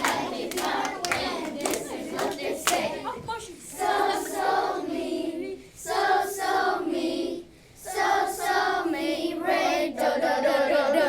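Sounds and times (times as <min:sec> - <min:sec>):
young children singing in unison: 0:00.0 - 0:11.0.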